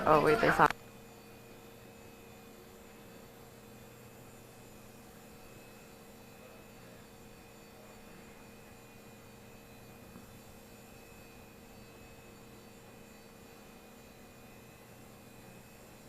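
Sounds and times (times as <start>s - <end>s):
faint steady hum with tones: 0.0s - 16.0s.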